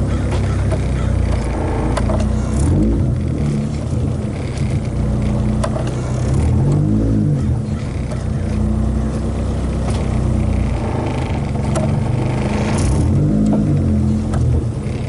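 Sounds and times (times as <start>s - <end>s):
car engine revving while driving: 0.0s - 15.0s.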